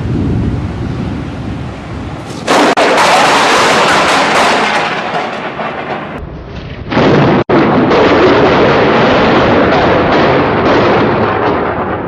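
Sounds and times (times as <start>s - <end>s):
thunderclap crack and rumble: 0.0s - 12.0s.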